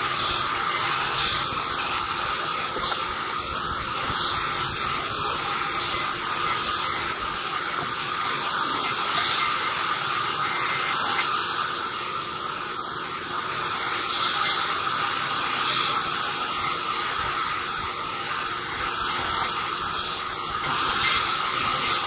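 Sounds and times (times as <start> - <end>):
band saw cutting wood: 0.0 - 22.0.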